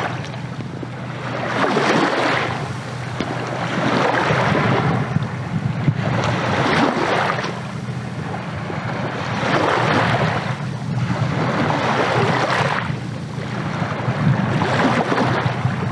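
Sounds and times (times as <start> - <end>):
small waves washing in: 0.0 - 15.9
wind rumble on microphone: 0.0 - 15.9.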